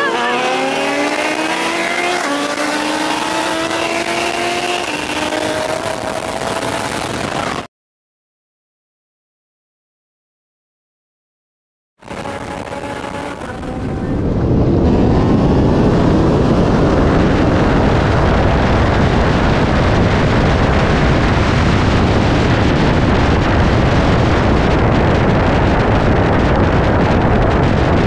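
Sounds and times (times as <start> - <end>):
car engine accelerating hard: 0.0 - 7.7, 12.0 - 27.9
heavy wind rush: 0.0 - 7.7, 12.0 - 28.0.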